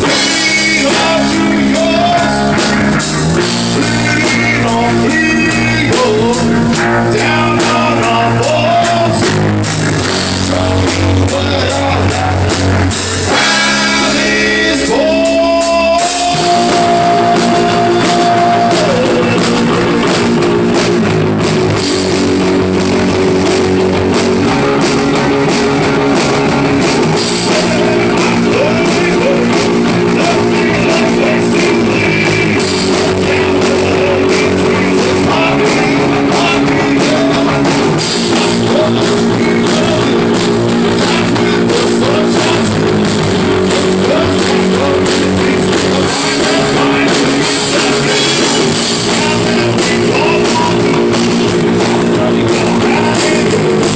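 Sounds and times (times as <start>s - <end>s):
person singing: 0.0s - 9.4s, 10.0s - 20.8s, 24.0s - 53.9s
drum kit with cymbals: 0.0s - 53.9s
electric bass: 0.0s - 53.9s
electric guitar: 0.0s - 53.9s.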